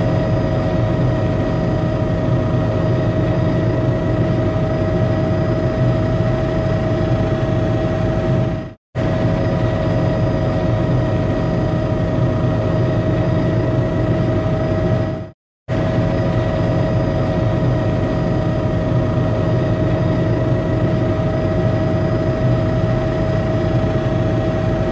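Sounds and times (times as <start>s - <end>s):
helicopter engine and rotor drone: 0.0s - 24.9s.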